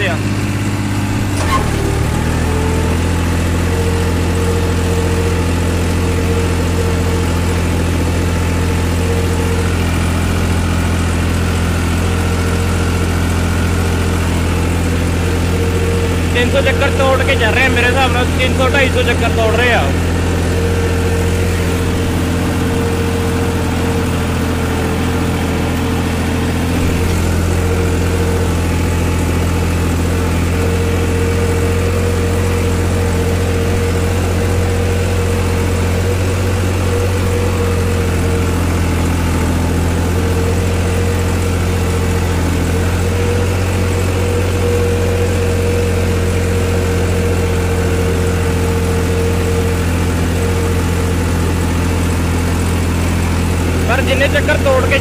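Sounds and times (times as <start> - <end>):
steady whine: 0.0 - 55.0
tractor diesel engine running: 0.0 - 55.0.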